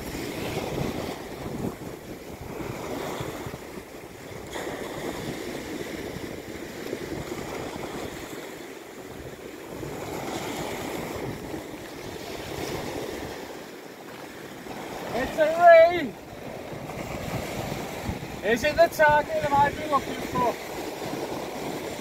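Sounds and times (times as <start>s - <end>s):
waves washing over rocks: 0.0s - 22.0s
wind buffeting microphone: 0.0s - 22.0s.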